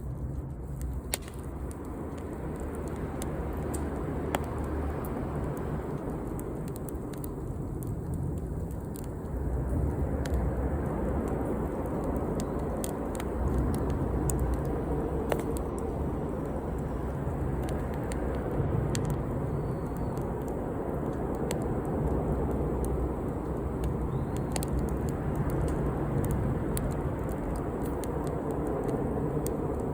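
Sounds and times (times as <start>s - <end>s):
campfire crackling: 0.0s - 29.9s
fire pops and snaps: 0.0s - 29.9s.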